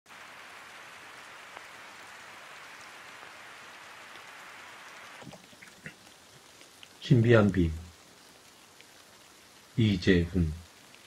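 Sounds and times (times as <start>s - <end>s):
steady rain hiss: 0.1s - 11.0s.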